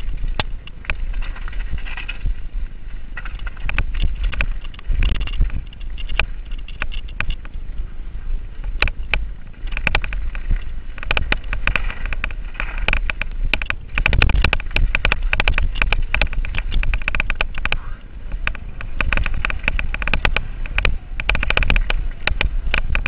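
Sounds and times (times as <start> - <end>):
mountain bike rattling over dirt: 0.0 - 23.0
wind buffeting microphone: 0.0 - 23.0.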